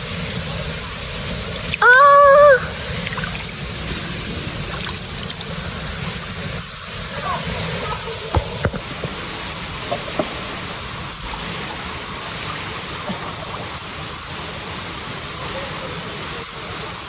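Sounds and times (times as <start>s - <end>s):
stream water flowing: 0.0s - 17.0s.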